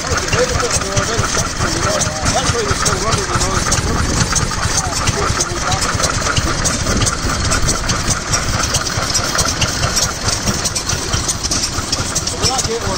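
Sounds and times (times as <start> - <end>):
stationary engine running: 0.0 - 12.9.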